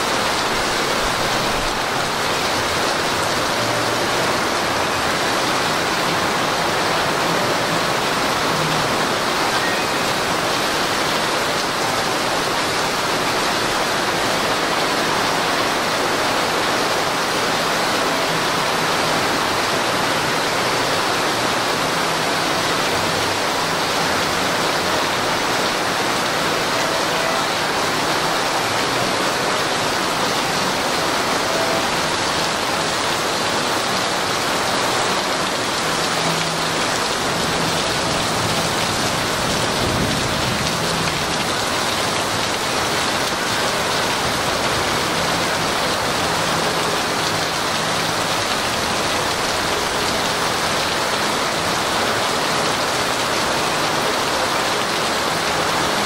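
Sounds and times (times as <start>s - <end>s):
heavy rain on paving: 0.0s - 56.0s.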